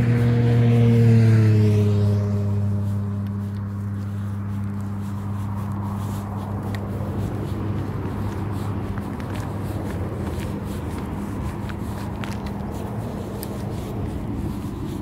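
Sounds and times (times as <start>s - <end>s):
faint footsteps: 0.0s - 15.0s
vehicle engine humming: 0.0s - 15.0s.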